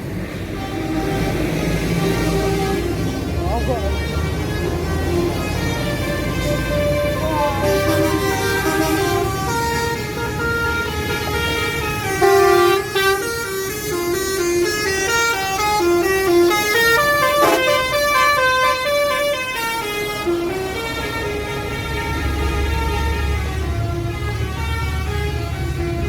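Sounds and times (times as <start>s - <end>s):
bus air horn playing a tune: 0.5s - 26.0s.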